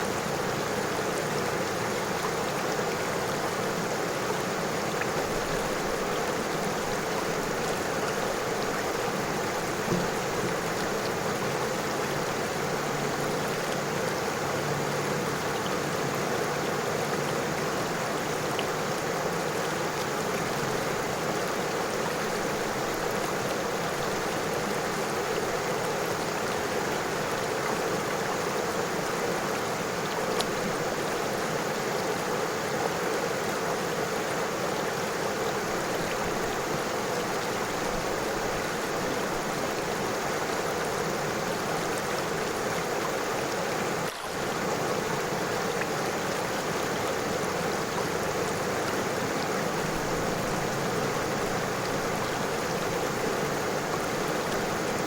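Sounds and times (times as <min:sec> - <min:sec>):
river rushing water: 0:00.0 - 0:55.0.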